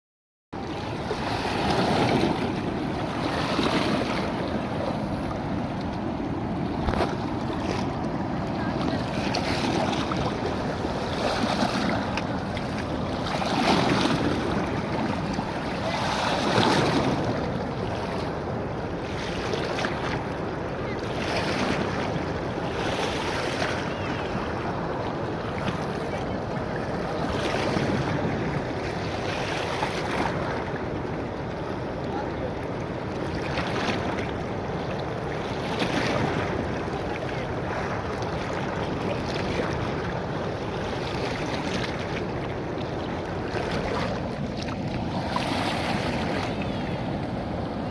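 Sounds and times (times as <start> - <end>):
rushing floodwater roar: 0.6 - 47.9.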